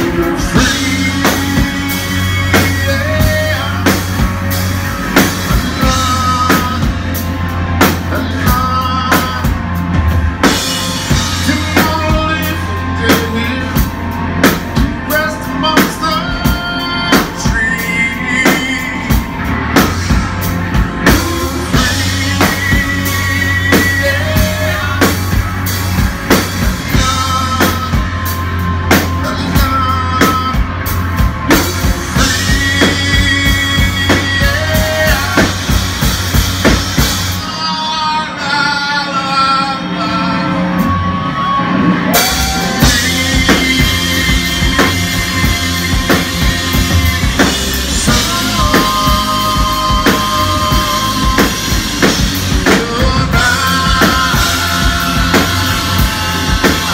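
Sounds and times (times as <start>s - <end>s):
man singing: 0.0s - 9.8s, 10.4s - 56.9s
rock band playing live: 0.0s - 56.9s.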